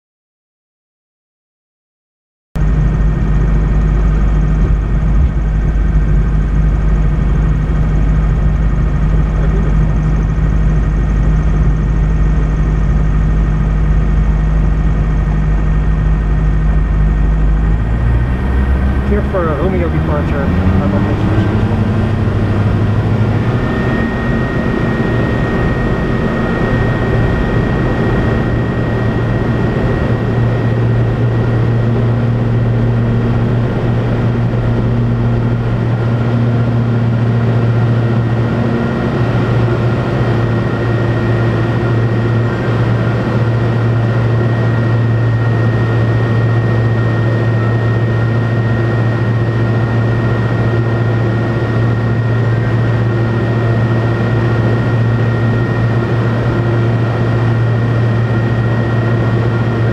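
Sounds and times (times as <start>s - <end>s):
aircraft engine drone: 2.6s - 59.9s
deep rumble: 2.6s - 59.9s.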